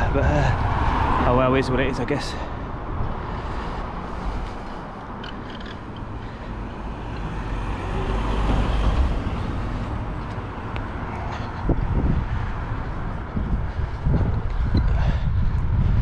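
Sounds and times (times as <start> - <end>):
vehicle passing: 0.0 - 16.0
wind and road noise: 0.0 - 16.0.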